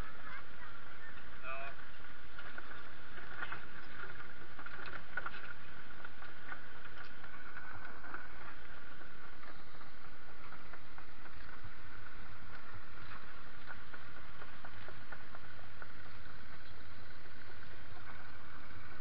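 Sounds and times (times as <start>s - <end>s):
bike rolling over gravel: 0.0s - 19.0s
small clicks and rattles: 0.0s - 19.0s.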